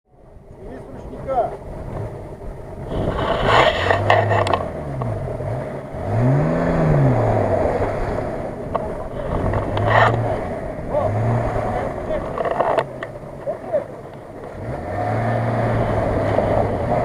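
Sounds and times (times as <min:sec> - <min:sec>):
engines revving under load: 0:00.4 - 0:17.0.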